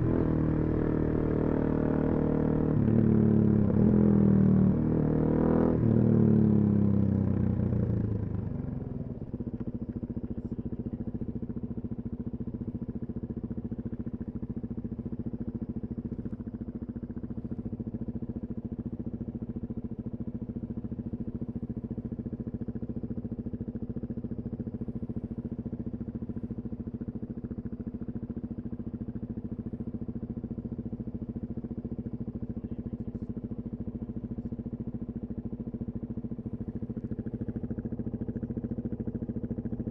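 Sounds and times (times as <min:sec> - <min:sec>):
motorcycle engine idling: 0:05.7 - 0:39.9.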